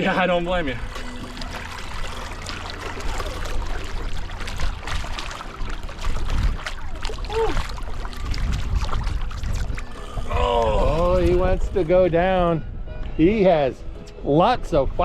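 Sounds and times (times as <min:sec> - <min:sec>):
water splashing beside boat: 0:00.0 - 0:12.4.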